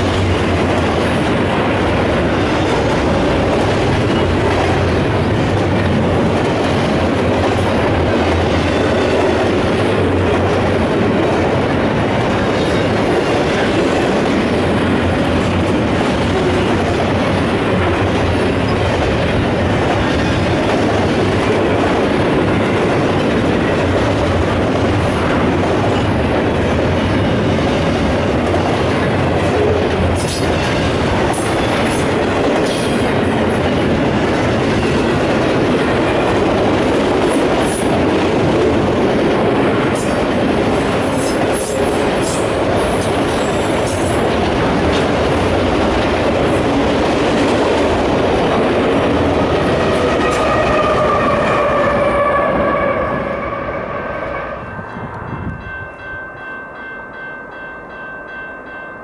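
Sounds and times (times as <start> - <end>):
train wheels rumbling on rail: 0.0 - 58.8.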